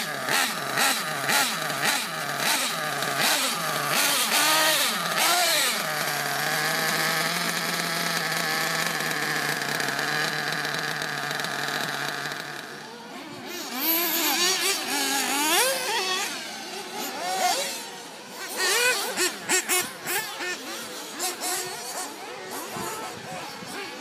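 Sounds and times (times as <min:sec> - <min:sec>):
small nitro engine idling: 0:00.0 - 0:24.0.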